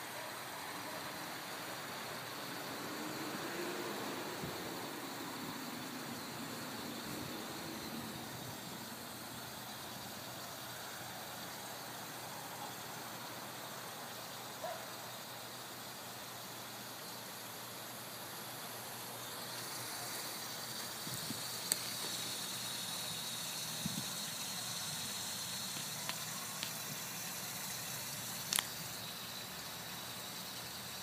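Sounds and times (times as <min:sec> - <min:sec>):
small waterfall rushing: 0:00.0 - 0:14.5, 0:17.5 - 0:31.0.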